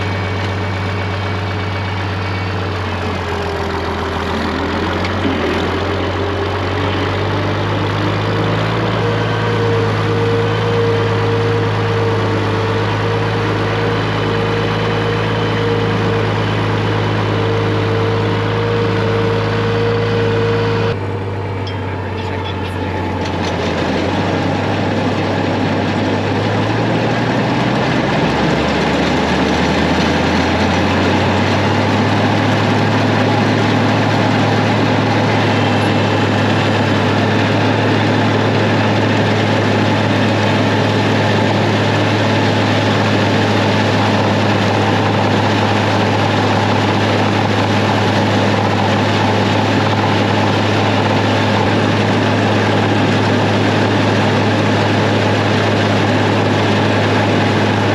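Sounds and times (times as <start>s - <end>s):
forage chopper whirring: 0.0s - 57.9s
tractor engine running: 0.0s - 57.9s.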